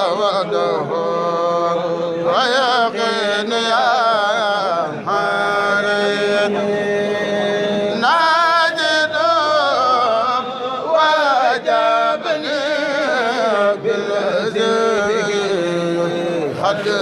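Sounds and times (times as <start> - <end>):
man chanting devotional poem: 0.0 - 17.0.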